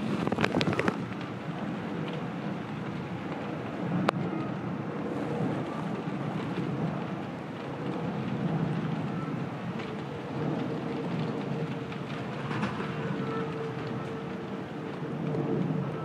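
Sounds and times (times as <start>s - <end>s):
steady rain: 0.0s - 16.0s
wind buffeting microphone: 0.0s - 16.0s.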